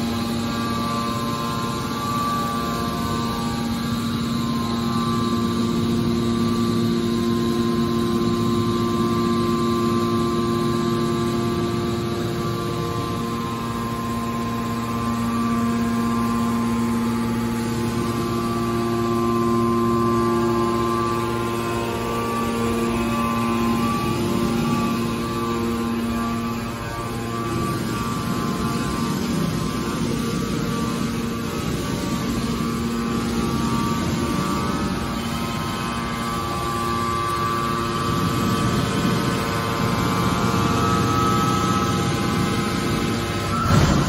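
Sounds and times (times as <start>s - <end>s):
hydraulic pump motor humming: 0.0s - 44.0s.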